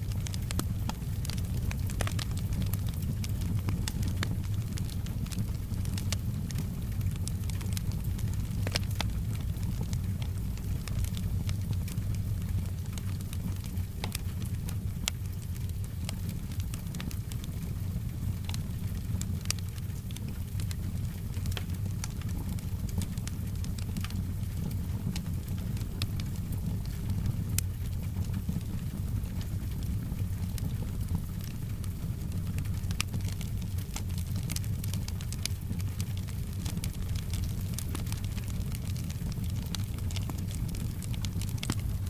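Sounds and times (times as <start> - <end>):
soft rain: 0.0 - 42.0
wood fire crackling and popping: 0.0 - 42.0.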